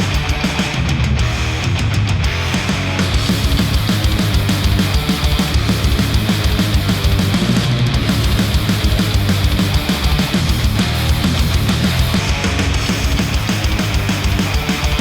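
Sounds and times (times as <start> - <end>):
heavy rock music through headphones: 0.0 - 15.0.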